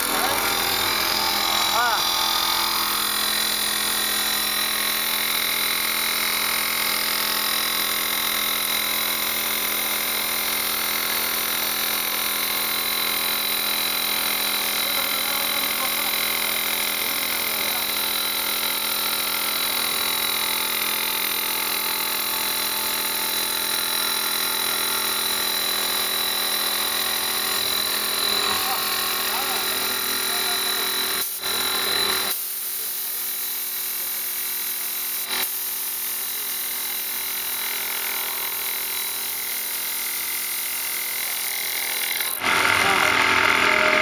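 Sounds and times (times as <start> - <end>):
wood lathe motor whine: 0.0 - 32.4, 35.2 - 44.0.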